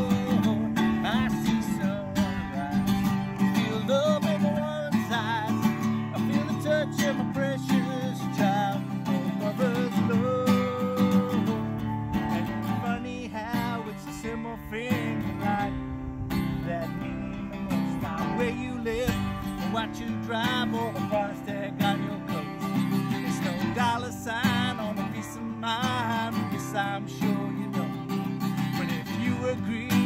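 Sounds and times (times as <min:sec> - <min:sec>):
acoustic guitar strumming: 0:00.0 - 0:30.0
man singing: 0:00.0 - 0:30.0.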